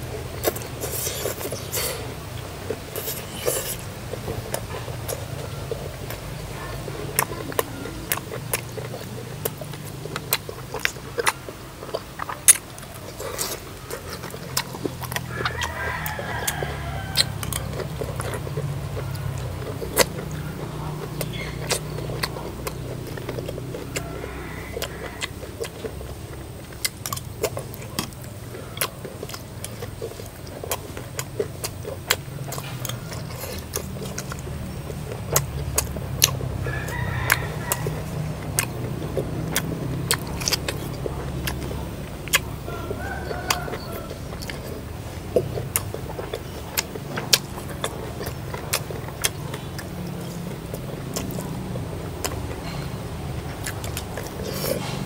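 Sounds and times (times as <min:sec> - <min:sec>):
crunching and chewing: 0:00.0 - 0:55.0
steady low hum: 0:00.0 - 0:55.0.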